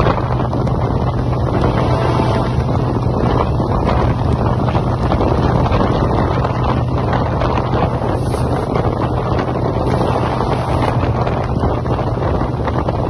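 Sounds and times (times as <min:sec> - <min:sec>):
train running rumble: 0:00.0 - 0:13.0
wind rushing over microphone: 0:00.0 - 0:13.0.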